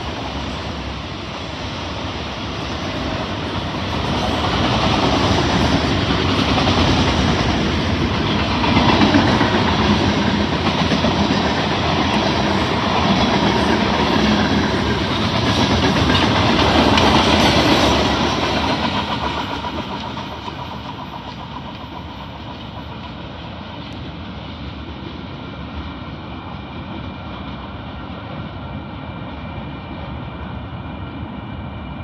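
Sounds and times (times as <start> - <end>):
train wheels clattering on rails: 0.0 - 28.7.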